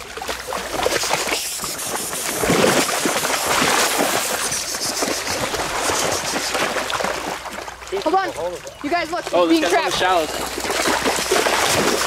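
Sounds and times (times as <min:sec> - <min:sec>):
dog splashing through water: 0:00.0 - 0:08.2, 0:09.2 - 0:12.0.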